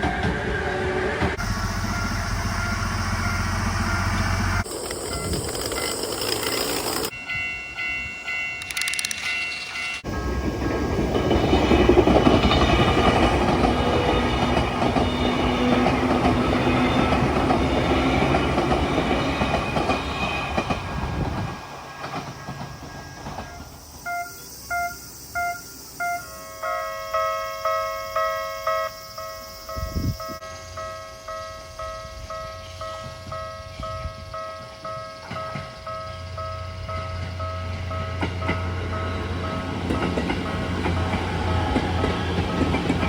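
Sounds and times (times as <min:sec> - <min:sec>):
train rail and wheel noise: 0:00.0 - 0:43.0
level-crossing warning bell dinging: 0:01.4 - 0:21.3, 0:22.0 - 0:43.0.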